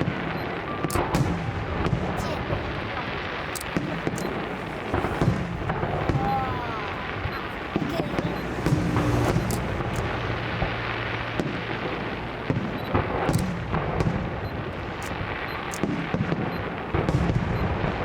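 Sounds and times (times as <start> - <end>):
fireworks bangs: 0.0 - 18.0
fireworks crackling rumble: 0.0 - 18.0.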